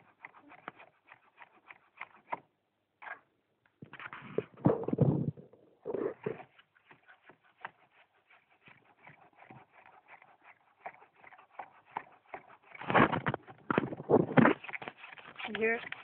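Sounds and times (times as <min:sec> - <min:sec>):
hand tool chipping wood: 0:00.0 - 0:03.2, 0:06.2 - 0:16.0.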